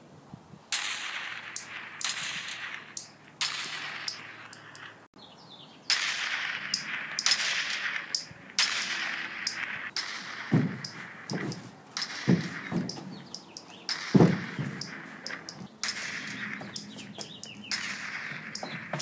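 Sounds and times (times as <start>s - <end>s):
gunshots with ringing: 0.7s - 5.1s, 5.9s - 19.0s.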